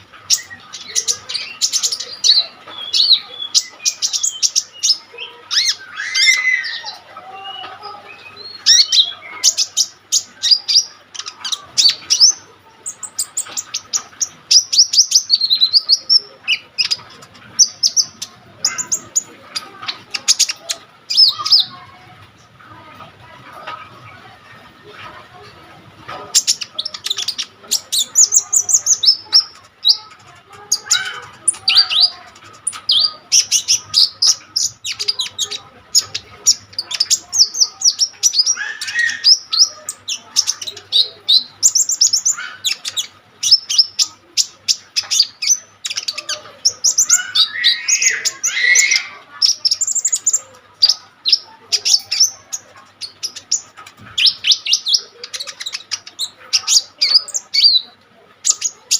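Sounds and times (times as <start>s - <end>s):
sunbird singing high chirps: 0.0s - 21.9s, 26.3s - 58.9s.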